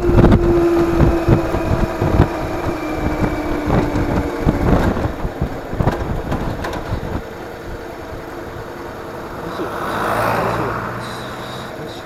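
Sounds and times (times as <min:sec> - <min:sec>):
wind buffeting microphone: 0:00.0 - 0:11.1
vehicle engine running: 0:00.0 - 0:12.0.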